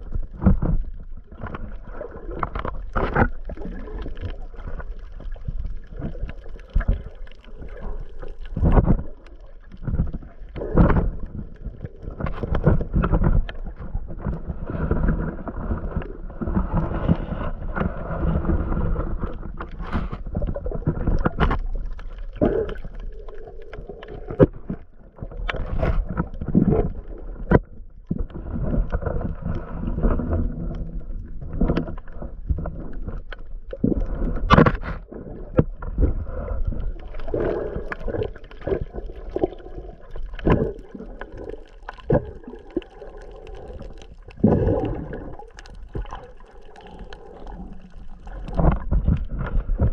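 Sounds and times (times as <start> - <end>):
underwater churning rumble: 0.0 - 49.9.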